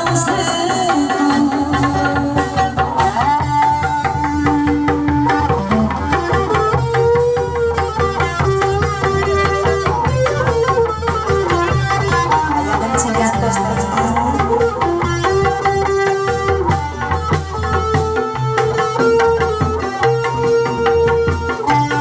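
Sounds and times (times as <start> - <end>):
hand drum strokes: 0.0 - 22.0.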